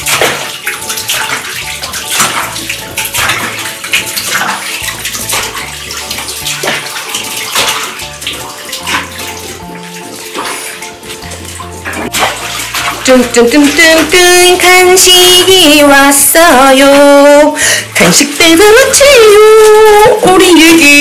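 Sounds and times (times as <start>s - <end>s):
background music with bass: 0.0s - 20.0s
water splashing in a tub: 0.0s - 21.0s.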